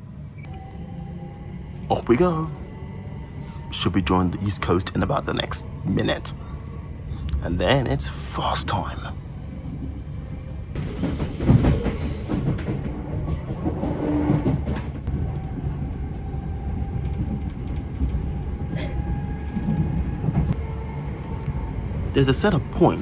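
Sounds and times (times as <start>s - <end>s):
train wheels rumbling on rail: 0.6s - 23.0s.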